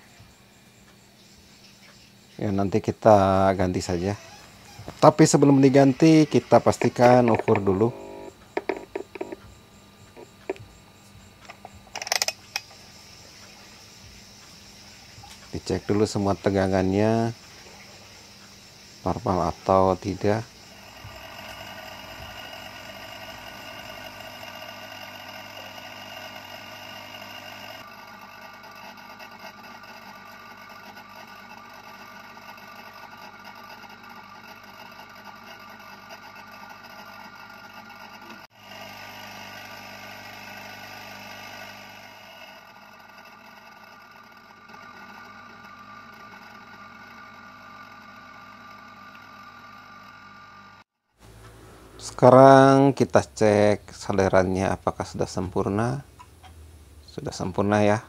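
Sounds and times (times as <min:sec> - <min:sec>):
hot-air gun blower humming: 0:00.0 - 0:56.6.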